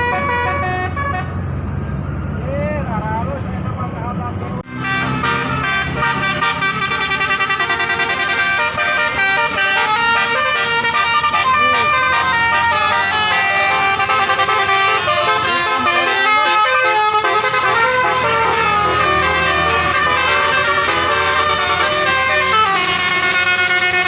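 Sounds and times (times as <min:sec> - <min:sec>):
musical bus horn melody: 0:00.0 - 0:01.4, 0:04.6 - 0:24.0
bus engine humming: 0:00.0 - 0:24.0.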